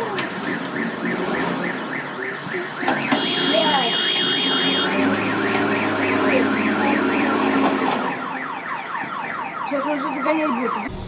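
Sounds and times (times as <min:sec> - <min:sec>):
electronic siren wailing: 0:00.5 - 0:11.0.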